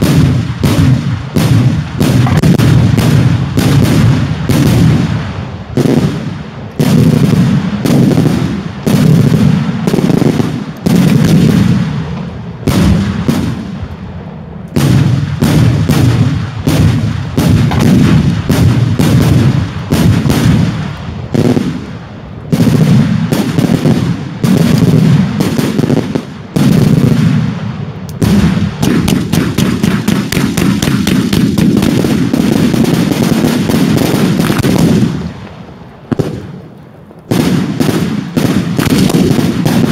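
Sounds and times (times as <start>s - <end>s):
fireworks explosions: 0.0s - 39.9s.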